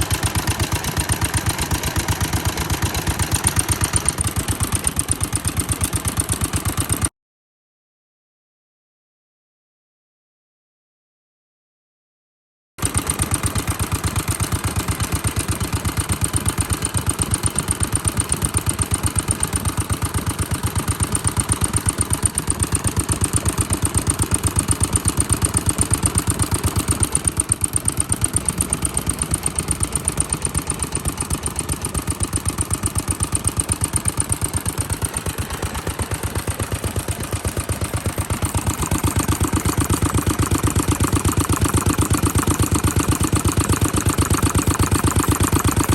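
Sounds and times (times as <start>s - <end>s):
stationary engine idling: 0.0s - 7.1s, 12.8s - 45.9s.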